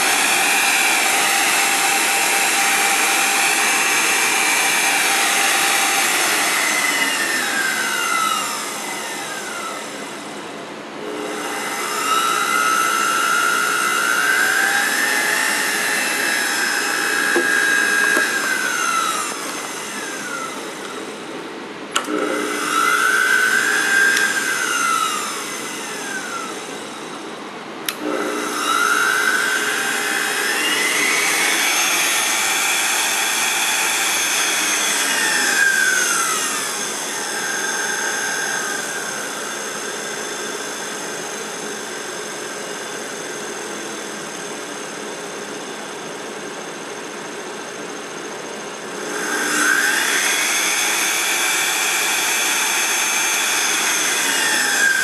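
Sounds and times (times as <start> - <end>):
spindle motor whining: 0.0 - 55.0.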